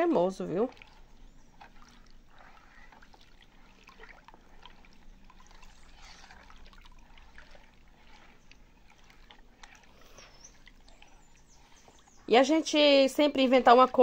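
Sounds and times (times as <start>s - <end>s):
small splashes and clicks: 0.0s - 12.4s
soapy water swishing in basin: 0.0s - 14.0s.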